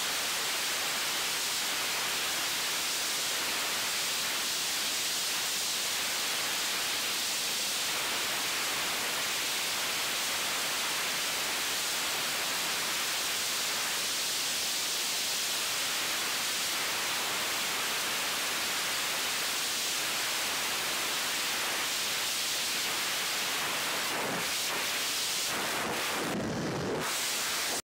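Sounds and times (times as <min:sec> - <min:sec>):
freefall wind rushing over microphone: 0:00.0 - 0:27.8.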